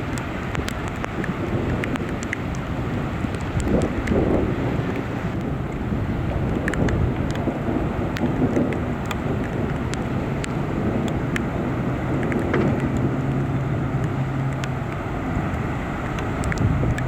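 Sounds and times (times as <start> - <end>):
heavy rain hissing: 0.0 - 17.0
sharp taps of raindrops: 0.0 - 17.0
vehicle engine humming: 0.0 - 17.0.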